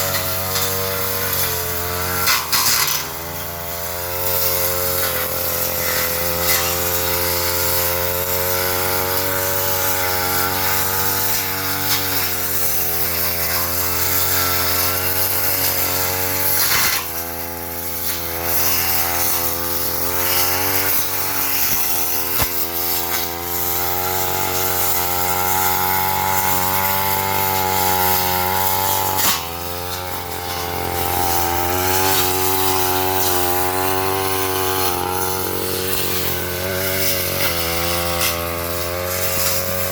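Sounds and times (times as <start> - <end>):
brush cutter engine at high revs: 0.0 - 39.9.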